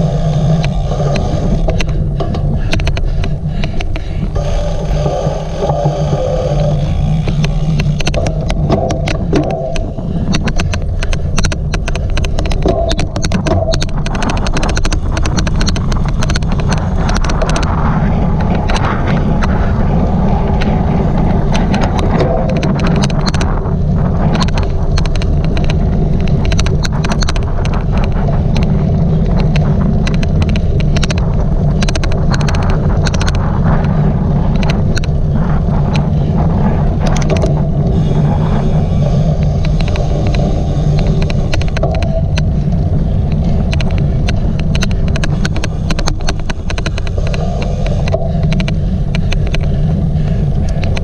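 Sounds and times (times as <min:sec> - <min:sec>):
bike sharp clicks: 0:00.0 - 0:51.0
tyres and wind rumble: 0:00.0 - 0:51.0.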